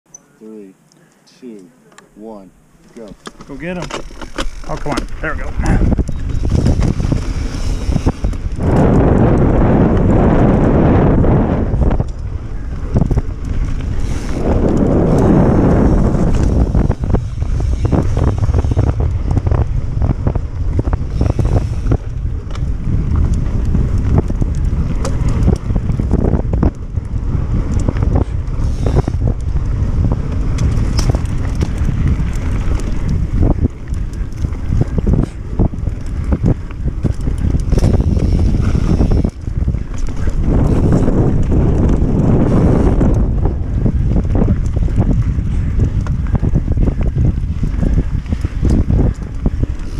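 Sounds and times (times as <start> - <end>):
bike rattling clicks and knocks: 2.8 - 49.9
wind noise on microphone: 3.0 - 49.9.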